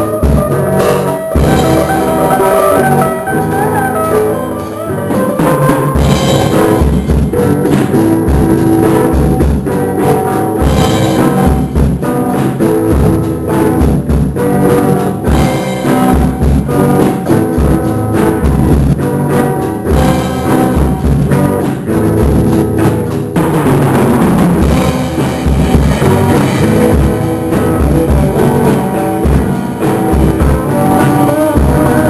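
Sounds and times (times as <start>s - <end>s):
drum kit steady beat: 0.0s - 32.0s
rock band playing: 0.0s - 32.0s.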